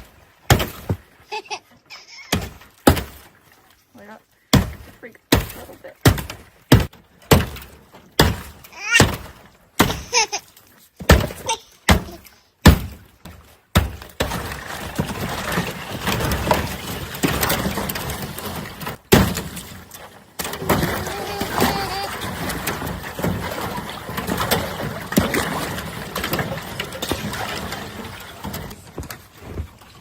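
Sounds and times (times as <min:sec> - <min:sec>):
strikes breaking ice: 0:00.0 - 0:01.2, 0:02.3 - 0:03.4, 0:04.5 - 0:10.3, 0:11.0 - 0:29.3
water sloshing: 0:00.0 - 0:30.0.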